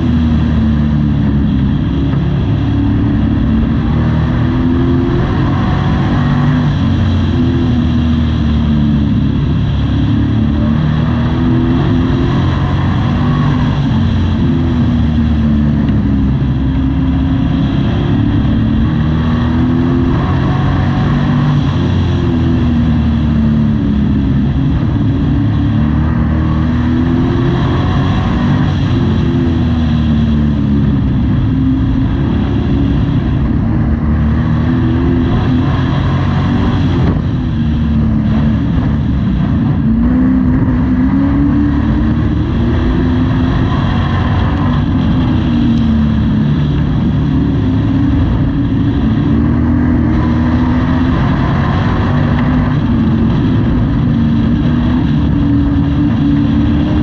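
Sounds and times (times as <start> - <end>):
race truck engine revving: 0.0 - 57.0.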